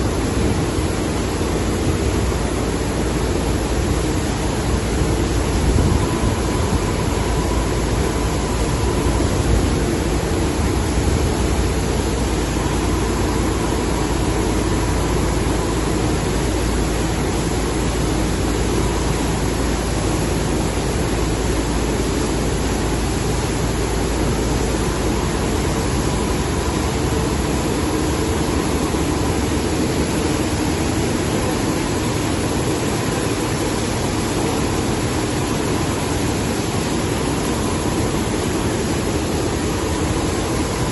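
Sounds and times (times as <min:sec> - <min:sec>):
faint steady machine whine: 0:00.0 - 0:40.9.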